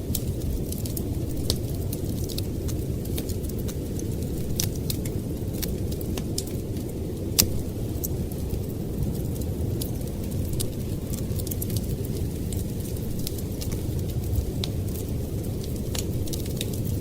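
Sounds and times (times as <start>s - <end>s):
storm wind rumbling: 0.0s - 17.0s
wood fire crackling: 0.0s - 17.0s.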